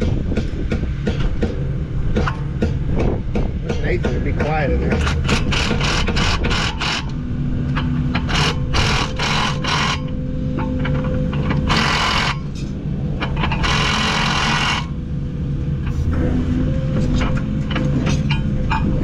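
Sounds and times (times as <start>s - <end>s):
diesel engine idling: 0.0s - 19.0s
harsh mechanical bursts: 0.0s - 19.0s.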